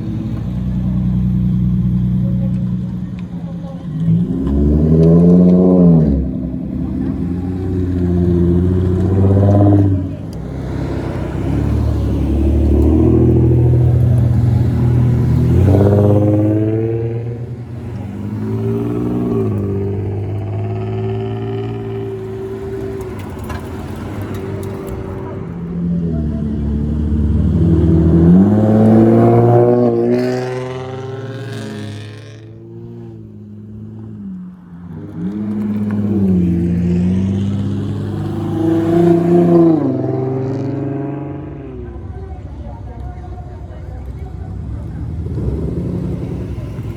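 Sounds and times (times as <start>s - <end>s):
car engine driving off: 0.0s - 46.9s.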